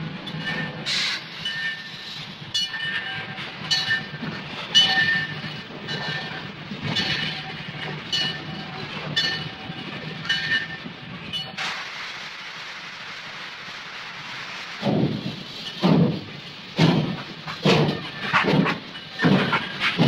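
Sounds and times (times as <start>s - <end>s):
train rumbling: 0.0s - 20.0s
clanking metallic beat: 0.2s - 11.6s, 14.8s - 20.0s.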